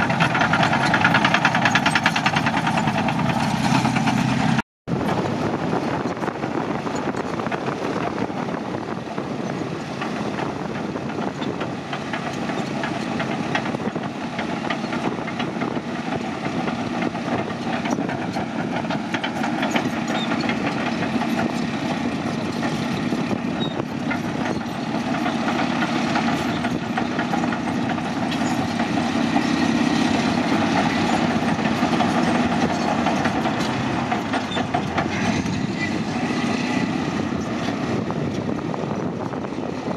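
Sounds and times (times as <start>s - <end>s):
dozer diesel engine running: 0.0s - 39.9s
steel tracks clattering: 0.0s - 39.9s.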